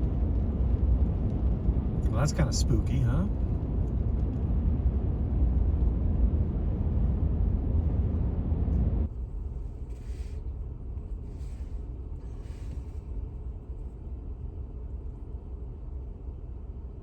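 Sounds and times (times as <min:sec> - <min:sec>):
vehicle road and wind noise: 0:00.0 - 0:17.0.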